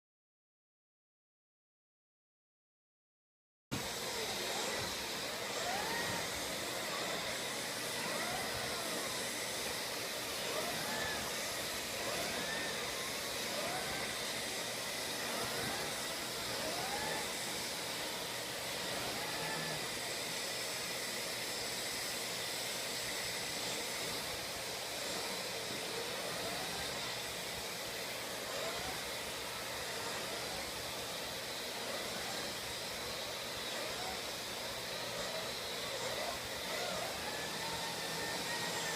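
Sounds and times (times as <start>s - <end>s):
vacuum cleaner running: 3.7s - 38.9s.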